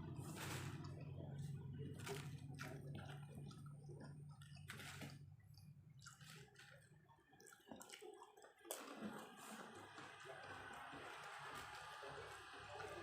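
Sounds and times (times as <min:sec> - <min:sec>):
faint eating sounds: 0:00.0 - 0:13.0.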